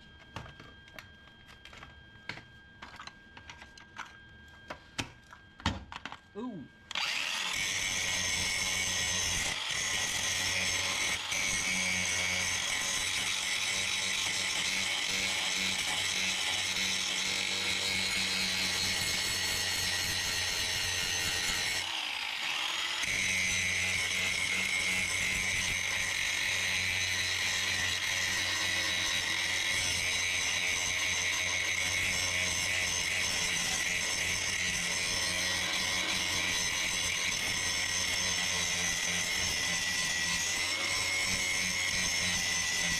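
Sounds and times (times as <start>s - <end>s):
angle grinder grinding metal: 6.9s - 42.9s.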